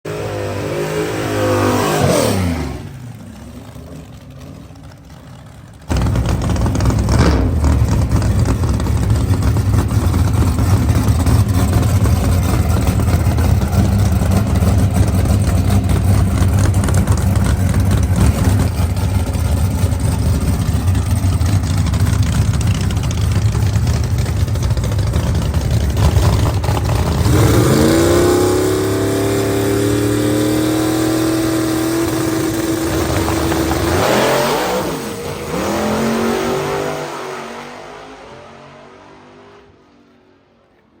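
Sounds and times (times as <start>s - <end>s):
drag car engine revving: 0.1s - 40.0s.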